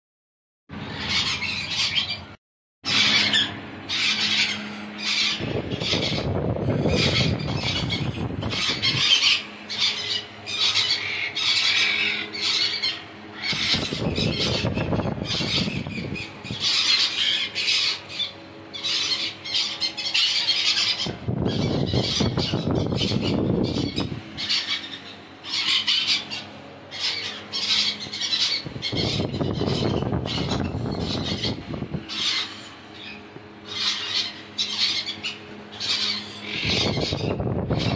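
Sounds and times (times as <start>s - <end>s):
low rumbling noise: 0.7s - 37.9s
parrots squawking and screeching: 0.8s - 2.3s, 2.9s - 37.9s.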